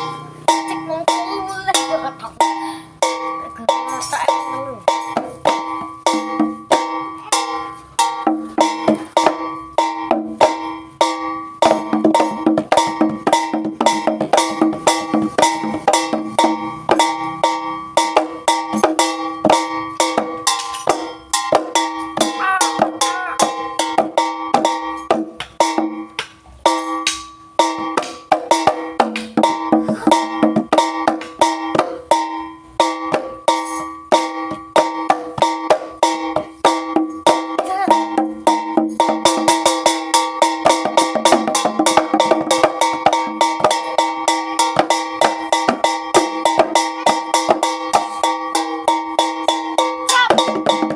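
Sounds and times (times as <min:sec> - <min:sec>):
fast drum and percussion strokes: 0:00.0 - 0:50.9
gamelan music: 0:00.0 - 0:50.9.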